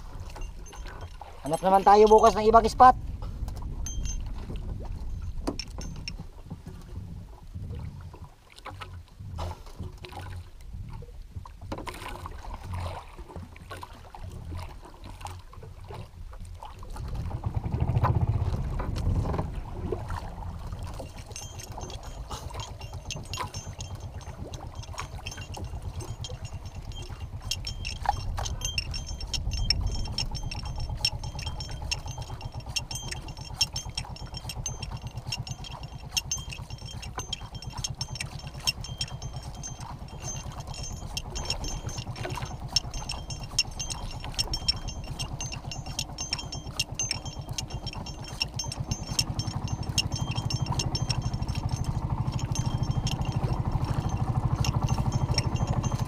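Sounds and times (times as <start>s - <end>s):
boat engine idling: 0.0s - 7.4s, 16.9s - 56.0s.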